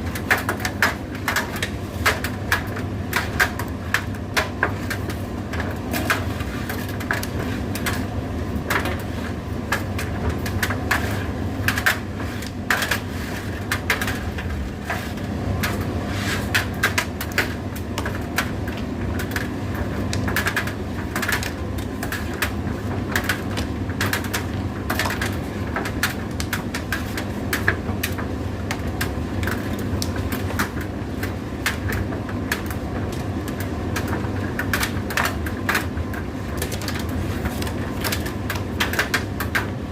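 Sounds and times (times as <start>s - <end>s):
tumble dryer motor hum: 0.0s - 39.9s.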